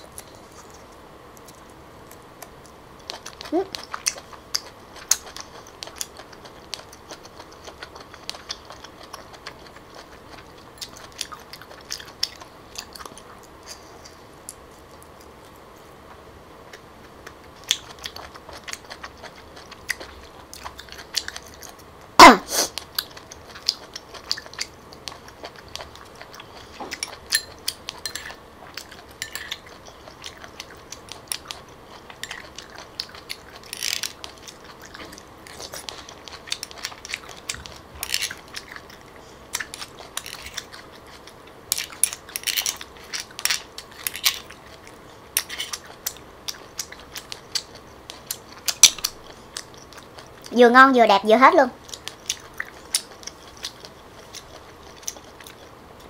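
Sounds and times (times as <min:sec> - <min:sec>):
person chewing: 0:00.0 - 0:50.5, 0:51.8 - 0:56.0.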